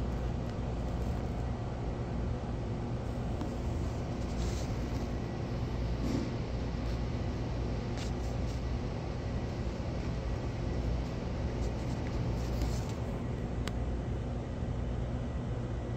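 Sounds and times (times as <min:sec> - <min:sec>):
low rumbling hum: 0:00.0 - 0:15.9.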